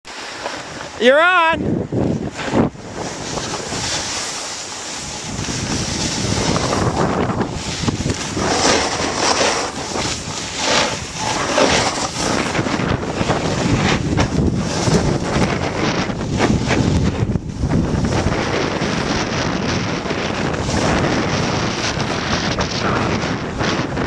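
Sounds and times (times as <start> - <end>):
snow sliding hiss and scrape: 0.1 - 24.0
wind rushing over microphone: 0.6 - 24.0.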